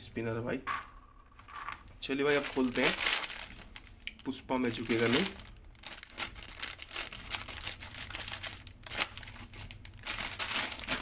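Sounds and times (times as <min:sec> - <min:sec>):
plastic snack packet crinkling: 0:02.1 - 0:11.0.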